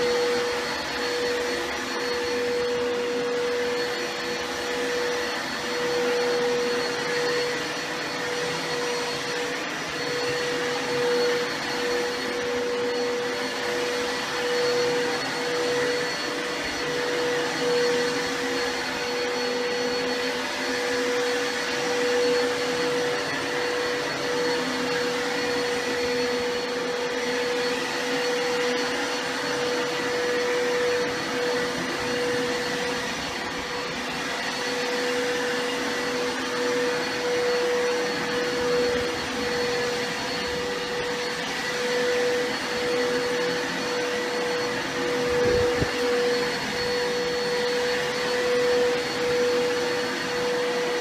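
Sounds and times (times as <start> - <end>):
vacuum cleaner motor running: 0.0 - 51.0.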